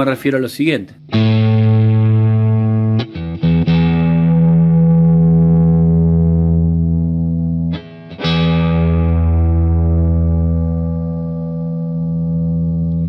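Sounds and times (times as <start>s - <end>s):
electric guitar low notes ringing: 0.0s - 13.0s.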